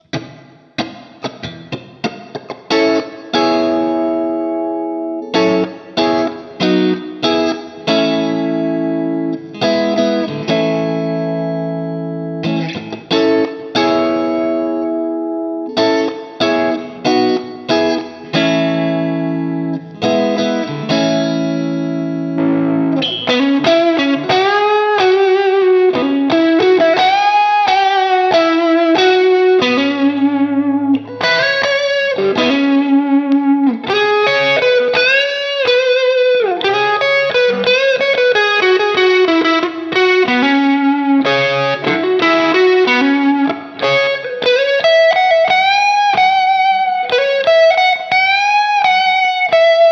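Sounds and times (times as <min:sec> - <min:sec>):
electric guitar lead line with bends: 0:00.0 - 0:49.9
electric guitar ringing chords: 0:00.0 - 0:49.9.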